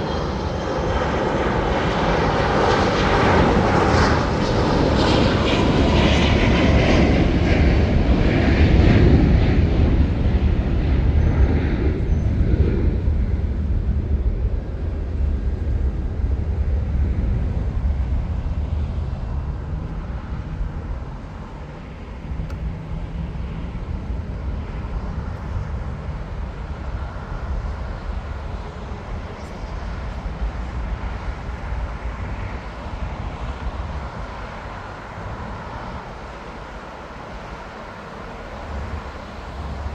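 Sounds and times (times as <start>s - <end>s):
jet engines: 0.0s - 39.9s
low rumble of airport noise: 0.0s - 39.9s.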